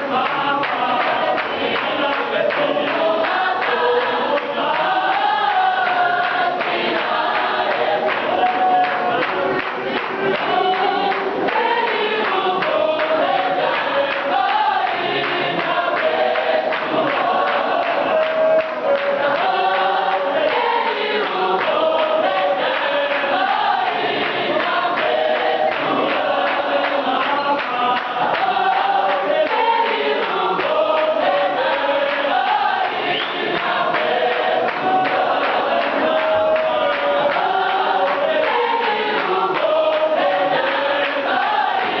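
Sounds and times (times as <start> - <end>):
choir singing in harmony: 0.0 - 42.0
hand claps: 0.0 - 42.0.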